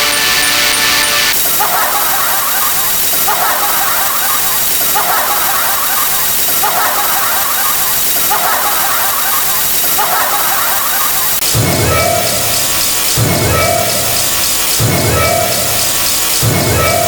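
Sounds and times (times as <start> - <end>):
loud steady hiss: 0.0 - 17.0.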